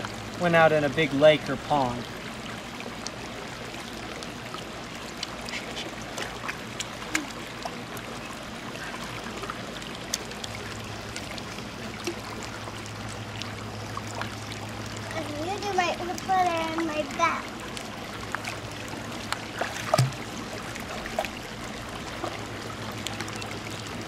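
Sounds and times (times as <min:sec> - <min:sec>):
small splashes and drips: 0:00.0 - 0:24.0
water trickling: 0:00.0 - 0:24.0.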